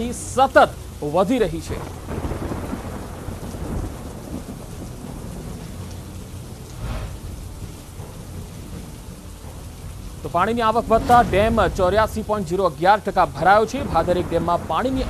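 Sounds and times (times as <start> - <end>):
steady rain: 0.0 - 15.0
low rumbling thunder: 1.6 - 15.0.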